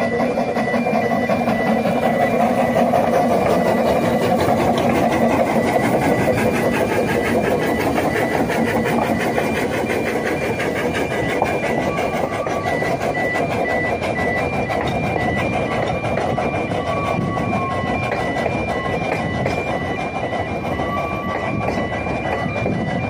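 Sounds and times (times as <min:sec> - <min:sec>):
level crossing alarm tones: 0:00.0 - 0:23.0
steam train rumbling: 0:00.0 - 0:23.0.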